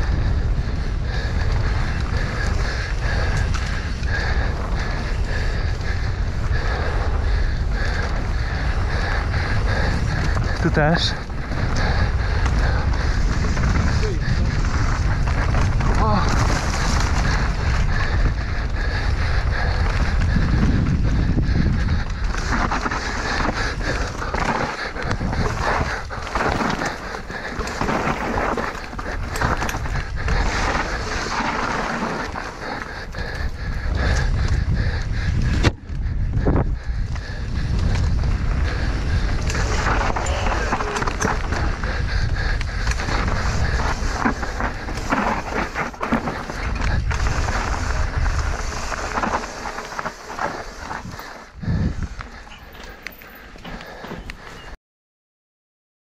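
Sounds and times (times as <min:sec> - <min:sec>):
bike tyres rolling over dirt: 0:00.0 - 0:54.8
wind buffeting microphone: 0:00.0 - 0:54.8.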